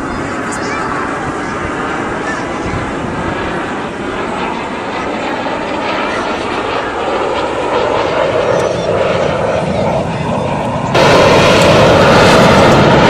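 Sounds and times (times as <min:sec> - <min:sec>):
aircraft flying past low: 0:00.0 - 0:13.0.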